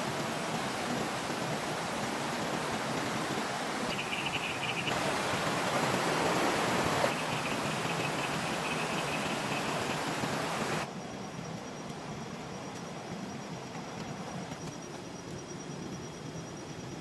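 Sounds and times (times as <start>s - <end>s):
outdoor night hiss: 0.0s - 17.0s.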